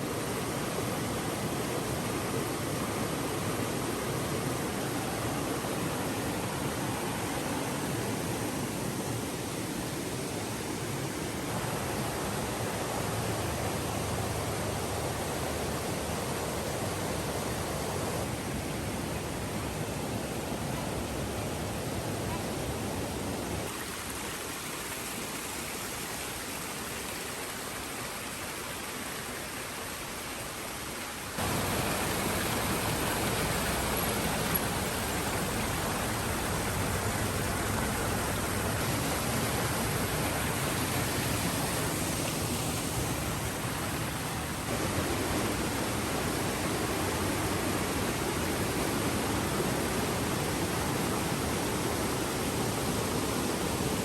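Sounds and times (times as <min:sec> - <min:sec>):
rushing creek water: 0:00.0 - 0:54.0.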